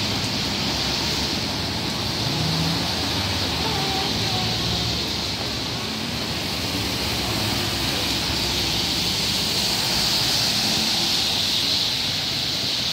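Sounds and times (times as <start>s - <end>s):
car tyres hissing on wet road: 0.0s - 12.9s.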